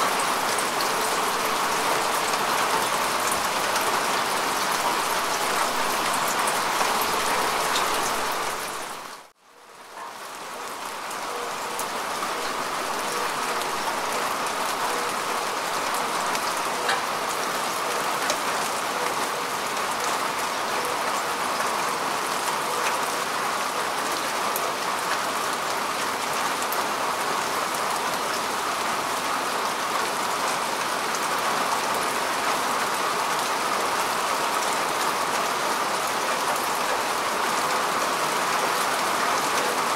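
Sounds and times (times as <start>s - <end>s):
rain falling on grass: 0.0s - 39.9s.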